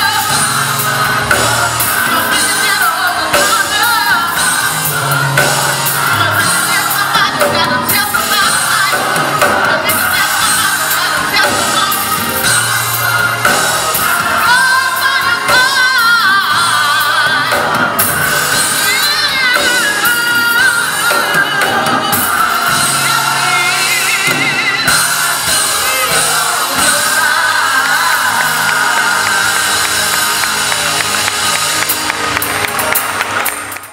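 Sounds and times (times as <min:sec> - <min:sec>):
lead singer's ornamented vocals: 0:00.0 - 0:33.6
band accompaniment: 0:00.0 - 0:33.9
gospel choir singing: 0:00.0 - 0:33.9.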